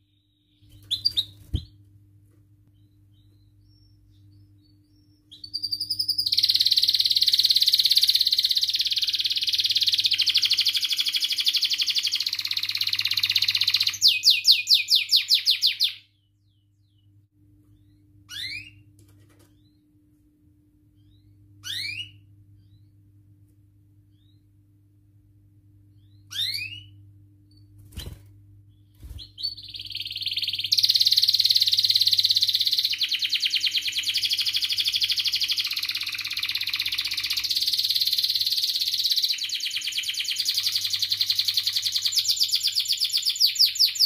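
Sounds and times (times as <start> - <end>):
canary singing trills: 0.0 - 1.8, 2.8 - 17.1, 17.7 - 18.9, 21.0 - 22.9, 25.9 - 44.0
faint low hum: 0.0 - 44.0.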